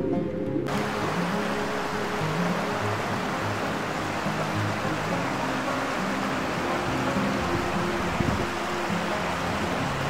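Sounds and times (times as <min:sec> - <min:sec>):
slow low background music: 0:00.0 - 0:10.0
river rushing over rocks: 0:00.7 - 0:10.0.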